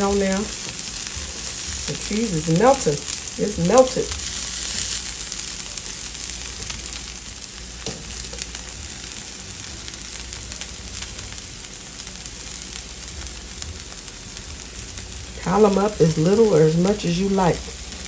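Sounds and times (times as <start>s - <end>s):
food sizzling on a griddle: 0.0s - 18.0s.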